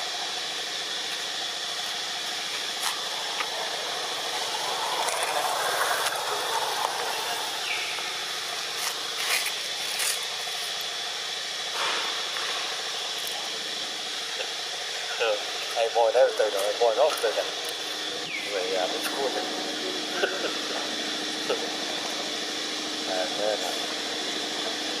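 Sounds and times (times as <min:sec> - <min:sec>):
faint high whine: 0:00.0 - 0:25.0
outdoor background hiss: 0:00.0 - 0:25.0.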